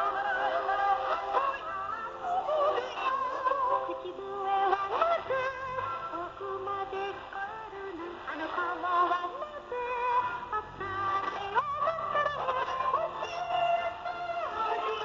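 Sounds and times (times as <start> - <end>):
music with singing over radio: 0.0 - 15.0.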